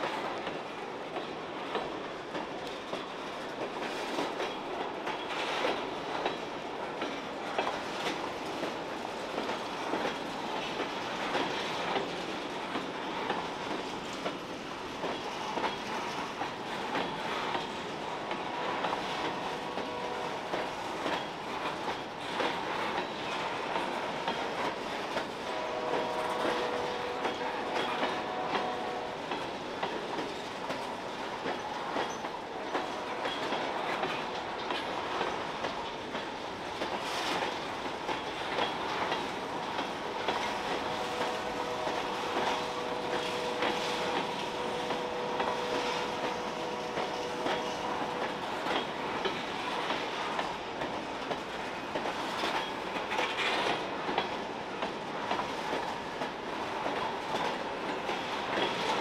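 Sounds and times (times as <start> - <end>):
freight train rolling past: 0.0 - 59.0
track creaking: 0.0 - 59.0
wheels clacking over rail joints: 0.0 - 59.0.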